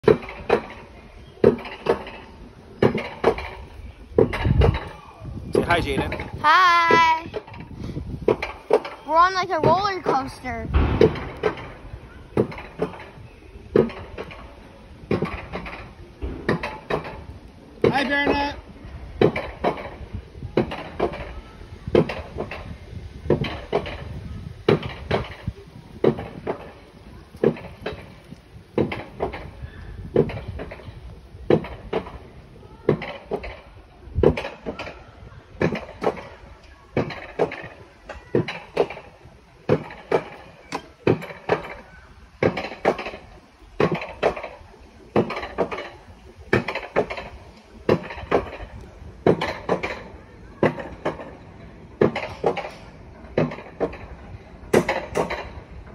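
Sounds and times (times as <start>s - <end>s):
low rolling rumble: 0.0s - 17.8s, 18.5s - 55.9s
cart clacking over rail joints: 0.0s - 55.9s.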